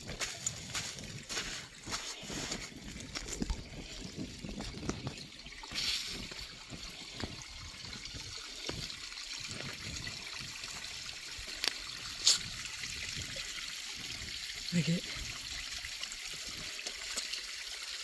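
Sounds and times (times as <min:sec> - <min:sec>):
small waterfall running: 0:00.0 - 0:18.0.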